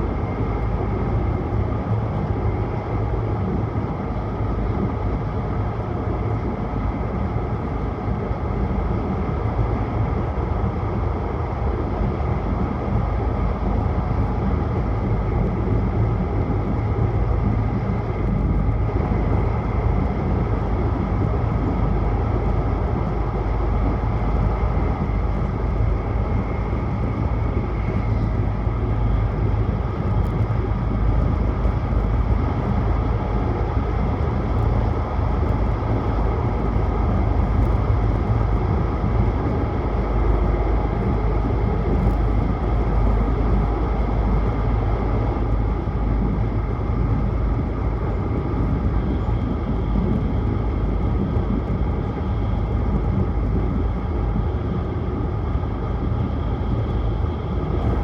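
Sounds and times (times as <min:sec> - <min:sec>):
train running noise inside cabin: 0:00.0 - 0:58.0.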